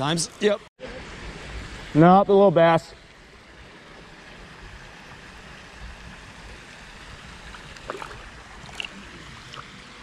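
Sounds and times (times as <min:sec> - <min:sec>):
flowing river water: 0:00.2 - 0:10.0.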